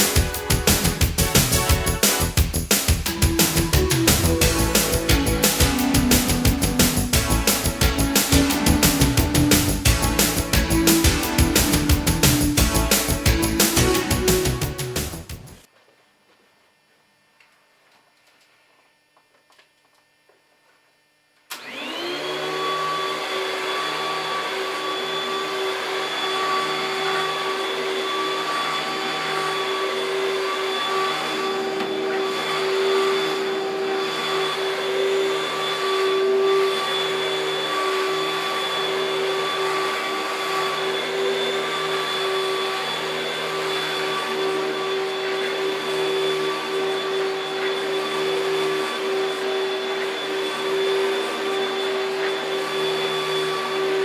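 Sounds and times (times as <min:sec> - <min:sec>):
vacuum cleaner motor running: 0:00.0 - 0:15.6, 0:21.5 - 0:54.0.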